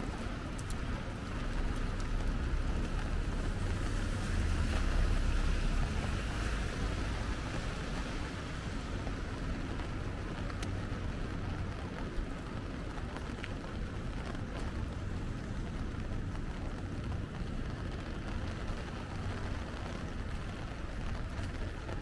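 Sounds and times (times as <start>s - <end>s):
steady rain: 0.0s - 22.0s
traffic background: 0.0s - 22.0s
vehicle passing on wet pavement: 0.0s - 22.0s.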